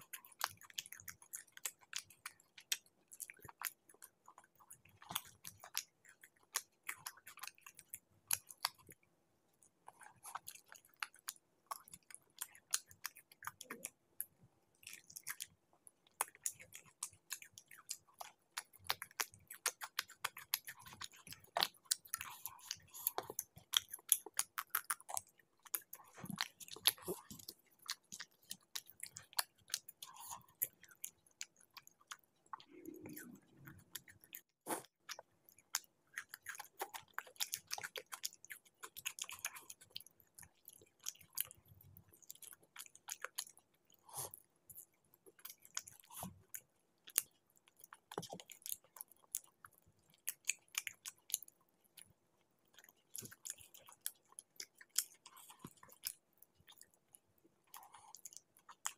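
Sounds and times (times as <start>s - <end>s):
faint steady hum: 0.0s - 48.3s
close chewing and biting: 0.0s - 58.9s.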